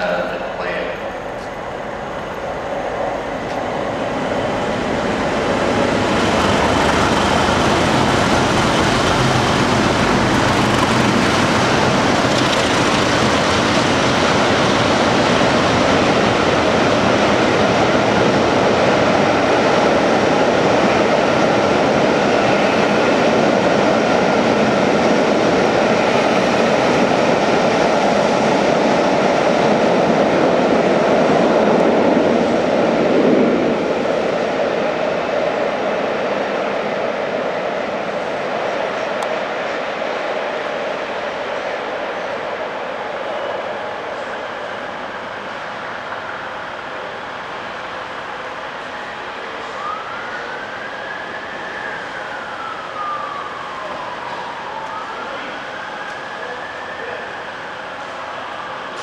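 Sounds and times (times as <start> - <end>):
coaches rolling on rails: 0.0 - 59.0
diesel locomotive engine: 0.0 - 59.0.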